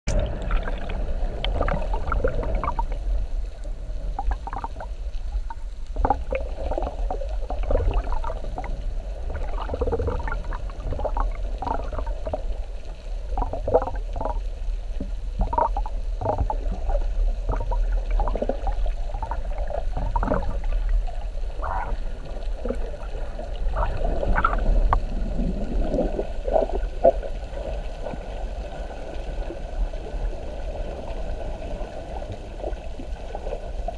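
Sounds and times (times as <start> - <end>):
short water sounds: 0.1 - 33.9
underwater rumble of moving water: 0.1 - 33.9.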